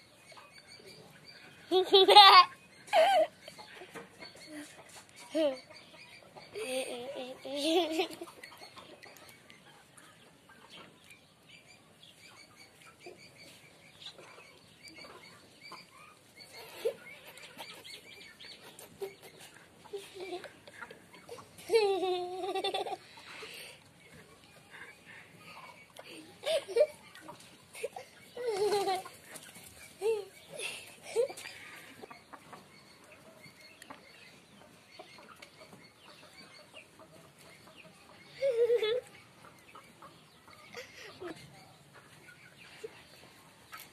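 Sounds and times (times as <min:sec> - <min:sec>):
chickens clucking: 0:00.0 - 0:43.9
chicks chirping: 0:00.0 - 0:43.9.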